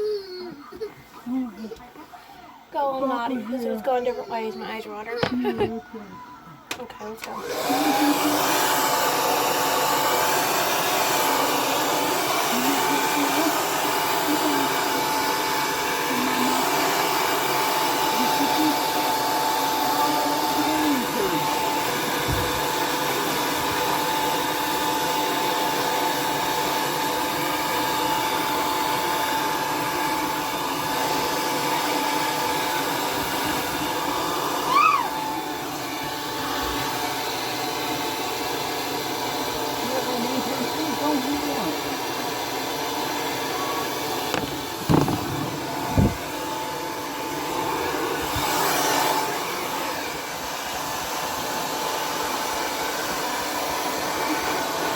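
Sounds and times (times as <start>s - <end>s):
hair dryer running: 3.9s - 5.8s, 6.7s - 54.9s.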